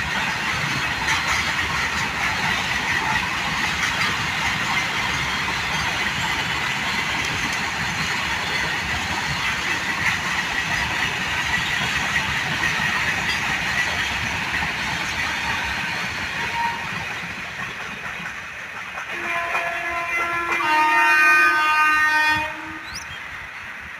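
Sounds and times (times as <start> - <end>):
train wheels on rails: 0.0 - 23.9.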